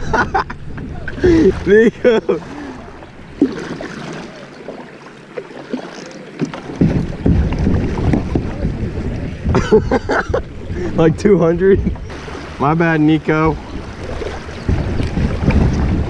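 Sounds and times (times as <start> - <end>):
water rushing and splashing on hull: 0.0 - 16.0.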